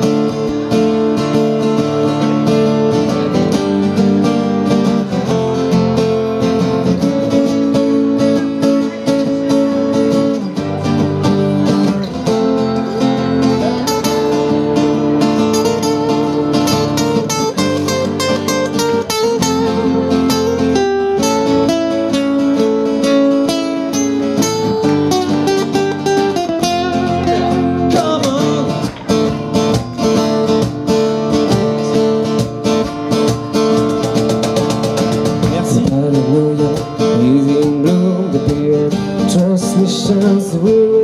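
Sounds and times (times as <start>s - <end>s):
strummed acoustic guitars: 0.0s - 41.0s.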